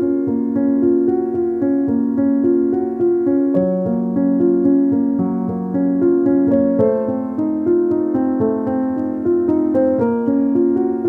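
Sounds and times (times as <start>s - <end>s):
piano-like keyboard music: 0.0s - 11.0s.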